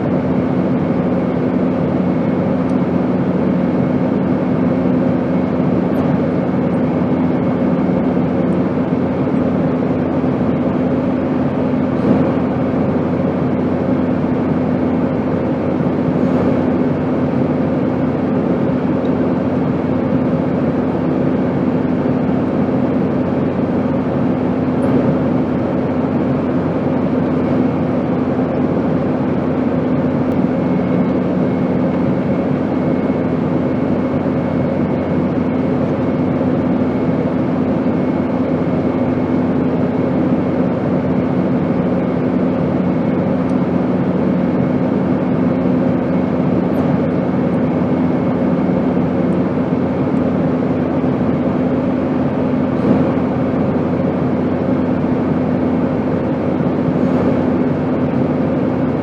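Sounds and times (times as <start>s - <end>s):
airplane noise: 0.0s - 59.0s.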